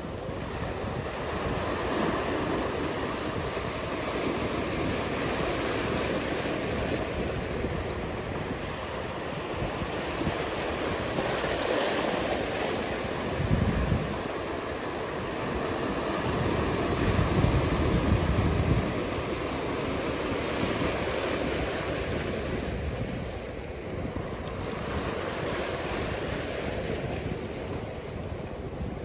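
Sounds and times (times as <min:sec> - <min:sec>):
ocean surf washing: 0:00.0 - 0:29.0
wind rumble on microphone: 0:00.0 - 0:29.0.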